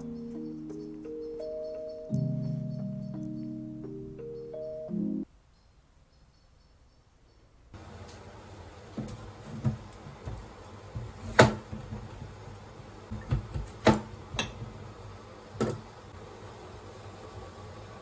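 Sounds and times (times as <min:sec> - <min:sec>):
room hiss: 0:00.0 - 0:18.0.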